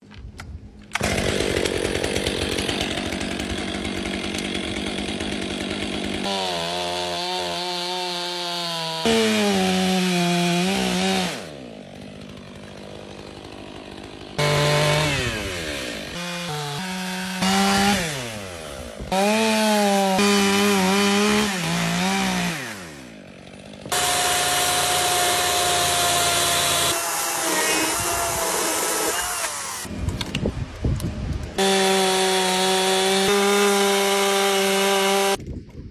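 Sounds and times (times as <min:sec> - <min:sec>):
chainsaw cutting wood: 0:00.9 - 0:30.5, 0:31.4 - 0:35.5.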